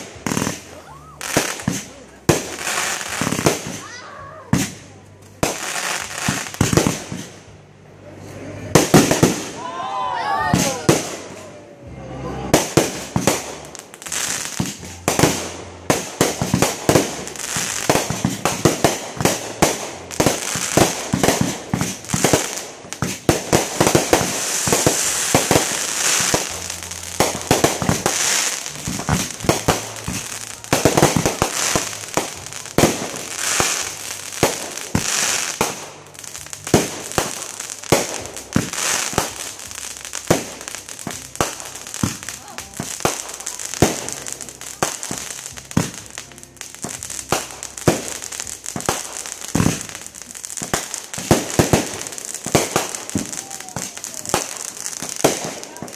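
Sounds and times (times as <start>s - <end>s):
crackling hiss of fireworks: 0.0s - 55.9s.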